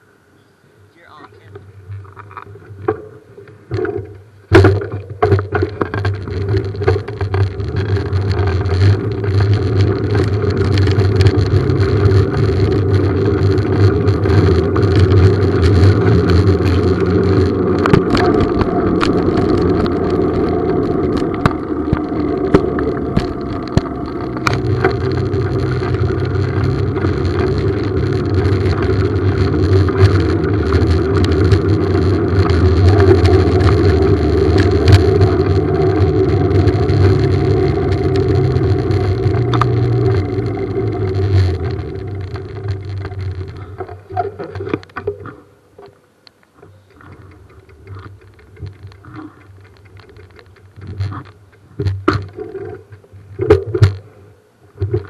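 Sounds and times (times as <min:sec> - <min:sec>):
bicycle tyres rolling on gravel: 0:01.0 - 0:55.0
wind on camera: 0:01.2 - 0:45.4.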